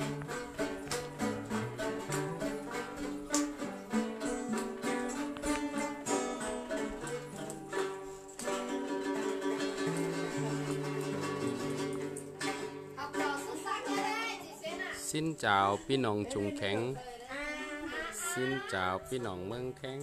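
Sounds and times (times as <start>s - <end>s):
folk music on plucked lutes: 0.0s - 20.0s.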